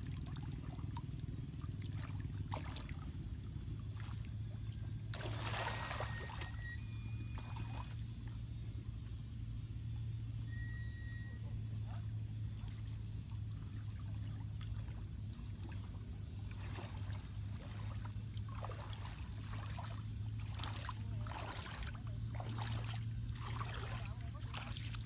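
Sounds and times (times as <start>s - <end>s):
water sloshing and splashing: 0.0s - 9.4s, 11.6s - 25.0s
steady low hum: 0.0s - 25.0s.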